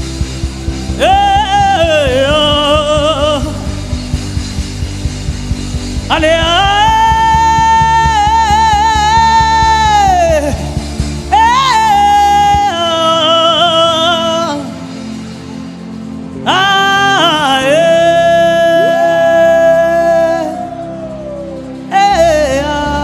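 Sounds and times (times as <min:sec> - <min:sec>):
low steady beat: 0:00.0 - 0:22.7
instrumental backing: 0:00.0 - 0:23.0.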